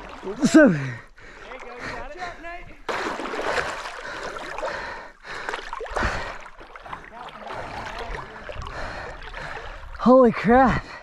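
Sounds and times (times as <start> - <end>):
rushing splashing river water: 0.0 - 2.0, 2.8 - 10.5.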